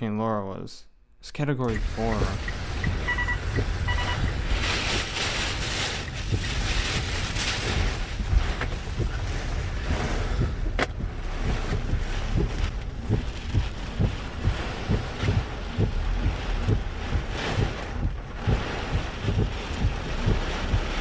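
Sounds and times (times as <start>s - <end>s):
hurricane wind on microphone: 1.7s - 21.0s.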